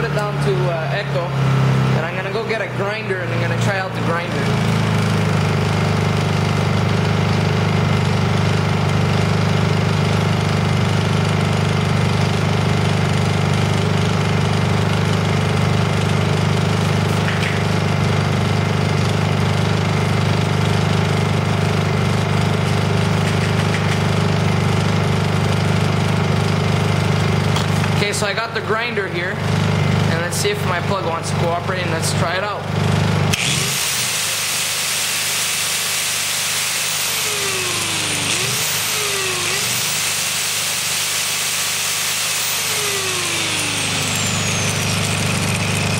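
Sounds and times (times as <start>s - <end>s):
generator engine running: 0.0s - 45.9s.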